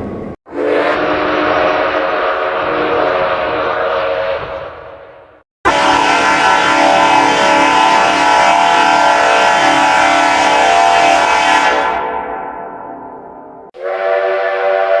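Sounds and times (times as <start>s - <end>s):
train whistle chord blast: 0.5s - 12.8s, 13.8s - 15.0s.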